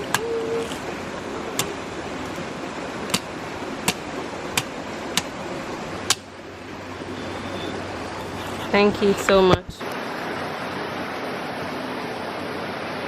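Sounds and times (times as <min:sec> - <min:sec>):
low steady hum: 0:00.0 - 0:13.0
river water rushing: 0:00.0 - 0:13.0.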